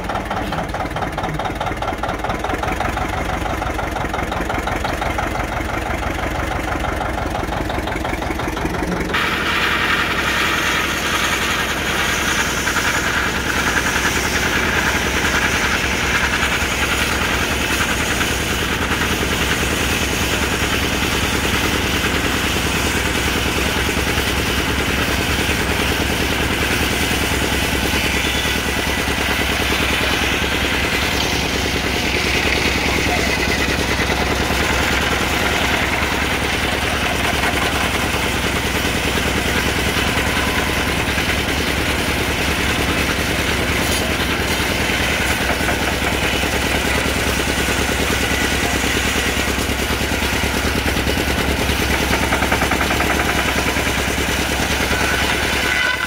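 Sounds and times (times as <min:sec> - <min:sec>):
sawmill whirring: 0:00.0 - 0:56.0
tractor engine running: 0:00.0 - 0:56.0.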